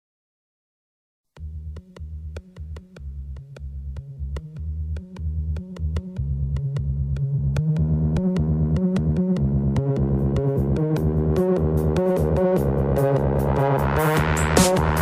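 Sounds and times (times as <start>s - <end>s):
electronic synthesizer music: 1.4s - 15.0s.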